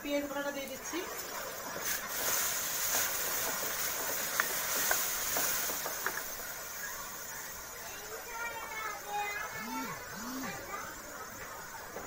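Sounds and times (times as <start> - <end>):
oil sizzling with pops: 0.0 - 12.0.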